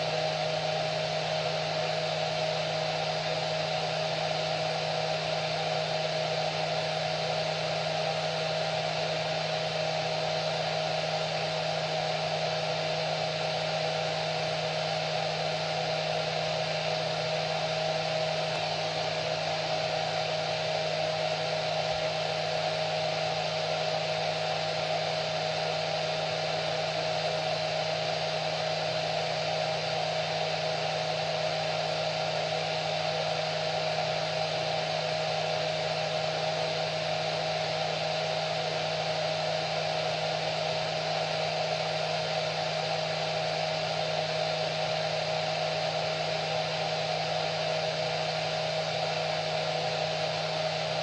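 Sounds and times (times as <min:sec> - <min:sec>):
hair dryer running: 0:00.0 - 0:51.0.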